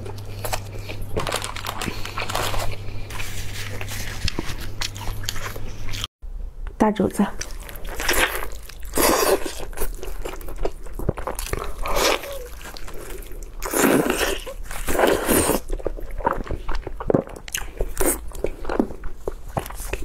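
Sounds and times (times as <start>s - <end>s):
person biting and chewing meat: 0.0s - 6.1s, 7.4s - 20.0s.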